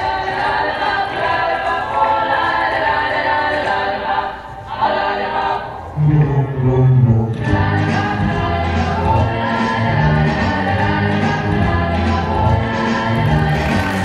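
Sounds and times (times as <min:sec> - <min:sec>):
music with choir-like singing: 0:00.0 - 0:14.0.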